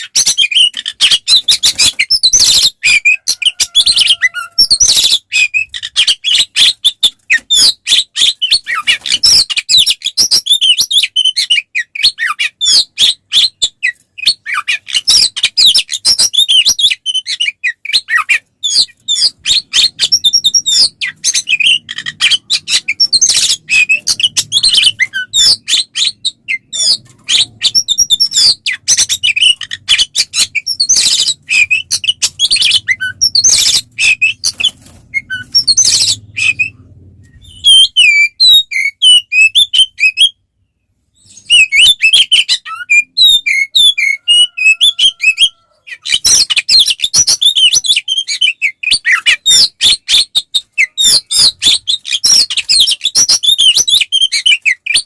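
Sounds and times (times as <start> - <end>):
songbird whistling and chirping: 0.0 - 55.0.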